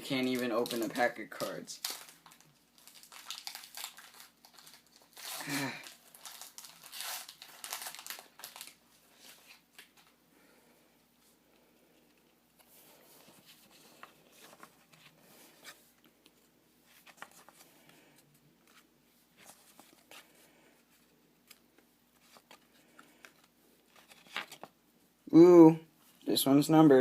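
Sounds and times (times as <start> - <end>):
trading cards and wrapper rustling: 0.0 - 10.2, 12.0 - 24.8.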